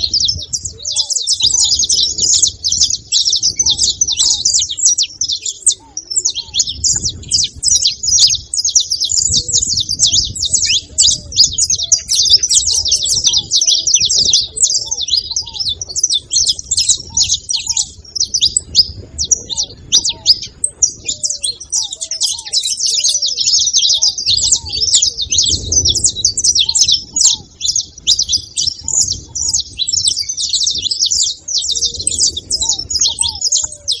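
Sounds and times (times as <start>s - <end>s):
finches chirping and twittering: 0.0s - 34.0s.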